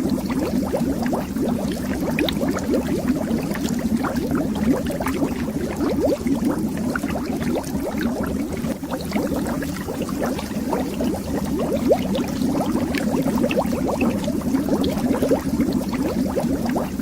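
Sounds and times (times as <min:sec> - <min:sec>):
underwater bubbles gurgling: 0:00.0 - 0:17.0.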